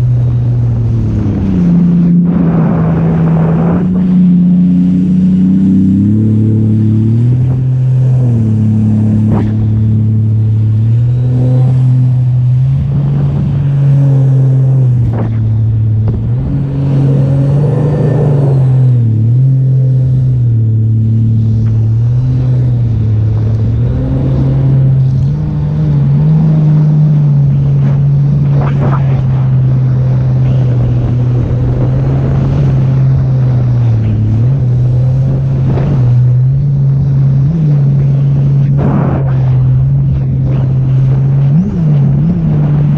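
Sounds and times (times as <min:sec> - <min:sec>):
jet ski engine revving: 0:00.0 - 0:42.9.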